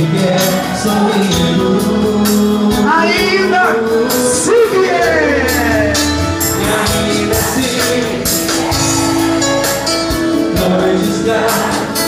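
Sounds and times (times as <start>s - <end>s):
drum rhythm: 0.0s - 12.0s
keyboard playing sustained chords: 0.0s - 12.0s.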